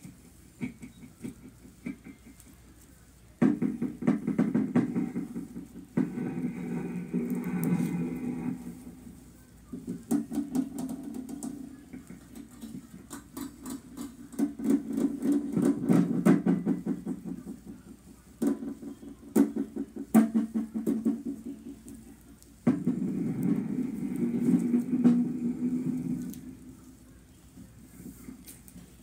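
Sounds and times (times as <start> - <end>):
slime squelching with crackling pops: 0.0 - 29.0.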